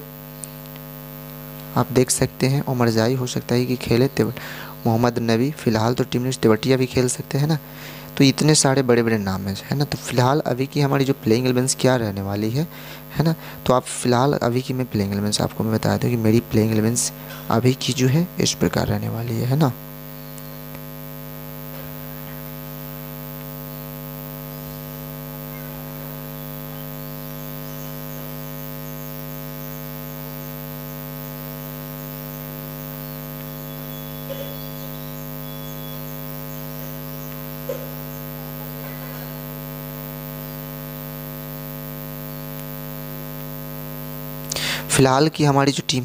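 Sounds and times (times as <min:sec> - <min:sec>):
electrical hum: 0:00.0 - 0:46.0.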